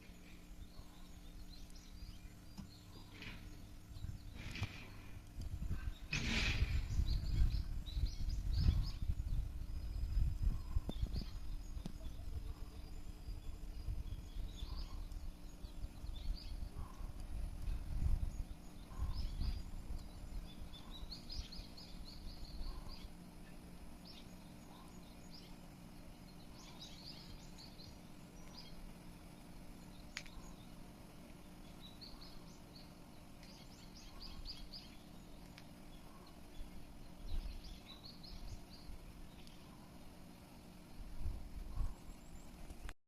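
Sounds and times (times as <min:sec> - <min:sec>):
bird chirping: 0:00.0 - 0:42.9
low rumbling background noise: 0:00.0 - 0:43.0.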